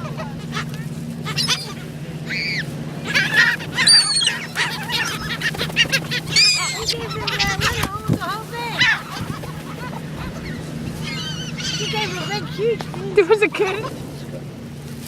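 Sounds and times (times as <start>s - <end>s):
gulls squawking: 0.0s - 14.7s
steady low hum: 0.0s - 15.0s.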